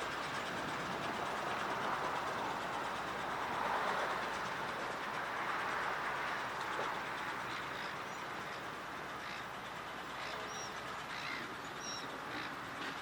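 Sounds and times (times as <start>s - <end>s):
railcar running on rails: 0.0s - 13.0s.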